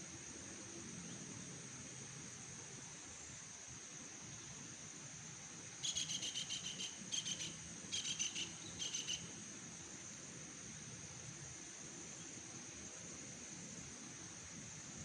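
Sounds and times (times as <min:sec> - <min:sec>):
insects high-pitched drone: 0:00.0 - 0:15.0
rapid pulsed insect chirping: 0:00.0 - 0:15.0.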